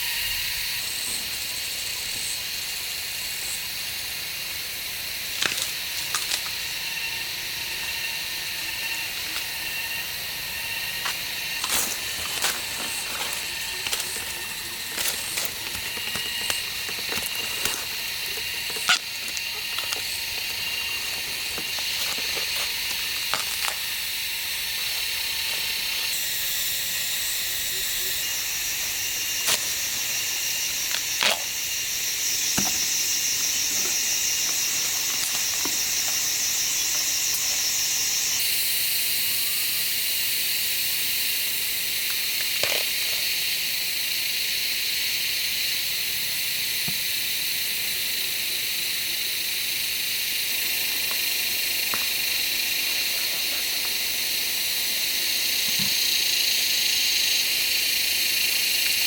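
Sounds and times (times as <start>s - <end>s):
high-pitched hiss: 0.0s - 59.0s.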